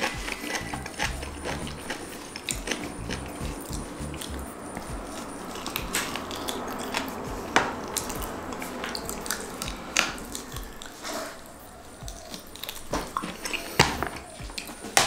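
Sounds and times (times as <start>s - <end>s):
person chewing food: 0.0s - 11.4s, 12.0s - 15.0s.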